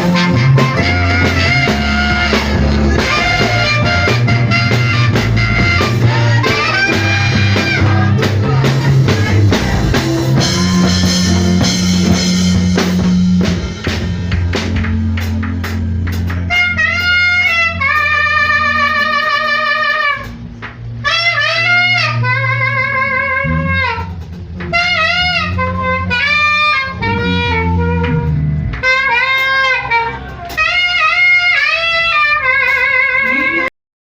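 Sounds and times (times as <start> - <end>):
saxophone melody: 0.0 - 33.7
sustained low bass notes: 0.0 - 33.7.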